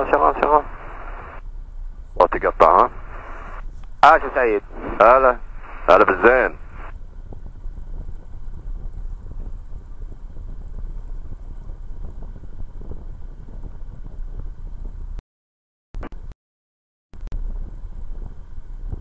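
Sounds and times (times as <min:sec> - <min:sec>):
light aircraft engine rumble: 0:00.0 - 0:15.2, 0:17.2 - 0:19.0.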